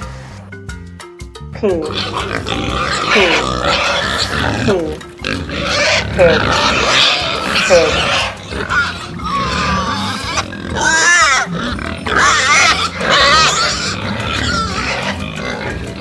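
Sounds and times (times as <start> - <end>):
pigs squealing and grunting: 1.8 - 16.0.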